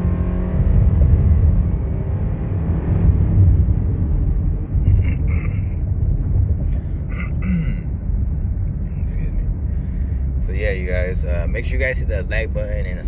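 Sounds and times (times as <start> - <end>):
car interior road and engine rumble: 0.0 - 13.0.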